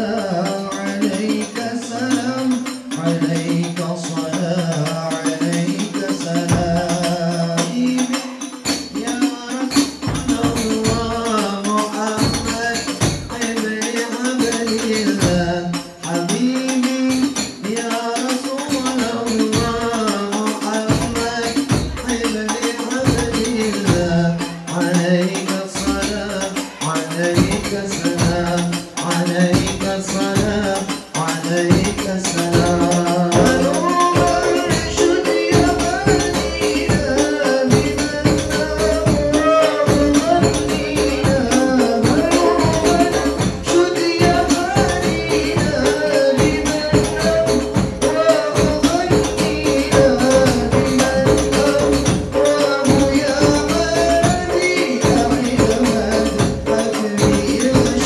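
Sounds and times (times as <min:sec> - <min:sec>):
hand percussion: 0:00.0 - 0:58.0
jingling frame drums: 0:00.0 - 0:58.0
men singing devotional song: 0:00.0 - 0:58.0.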